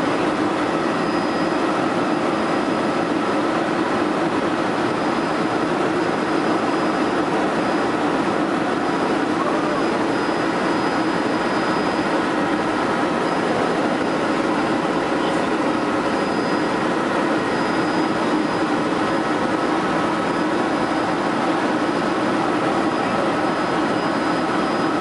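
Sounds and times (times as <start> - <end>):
faint high whine: 0.0 - 25.0
helicopter rotor drone: 0.0 - 25.0.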